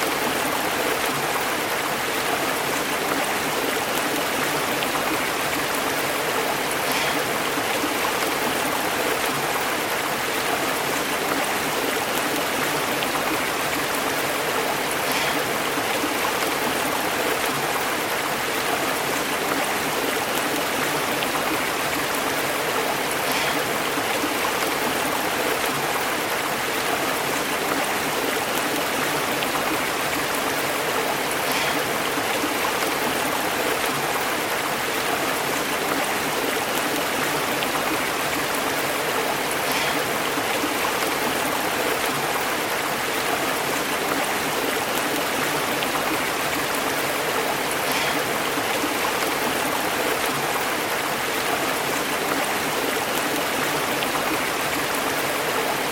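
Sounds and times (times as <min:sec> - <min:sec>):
stream burbling over rocks: 0:00.0 - 0:55.9.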